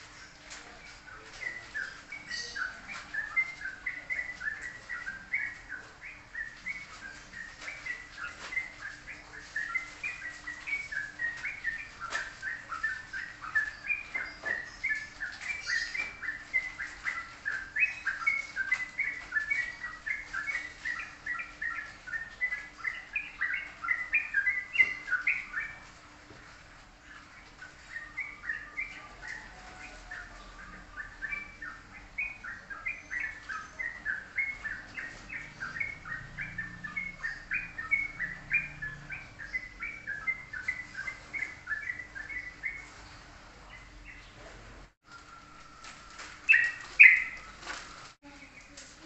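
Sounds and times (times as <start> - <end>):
songbird twittering song: 0.0 - 49.0.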